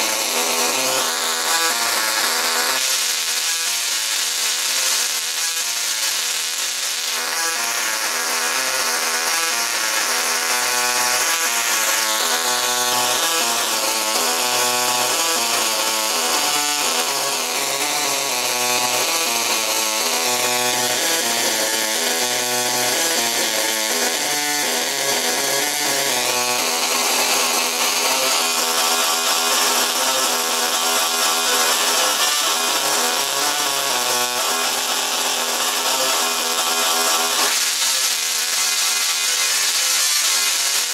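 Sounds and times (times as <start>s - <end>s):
tesla coil sparks playing a tune: 0.0s - 40.9s.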